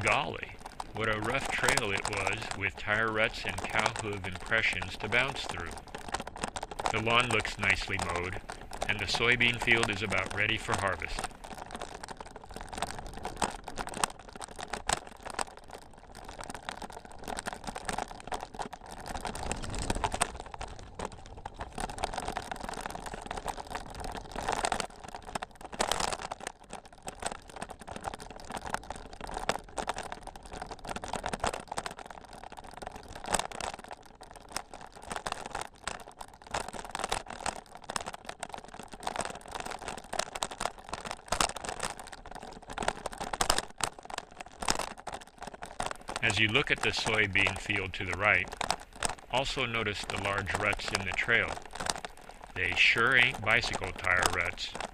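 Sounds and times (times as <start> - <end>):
bicycle tyres crunching on dirt: 0.0 - 54.9
bike rattling: 0.0 - 54.9.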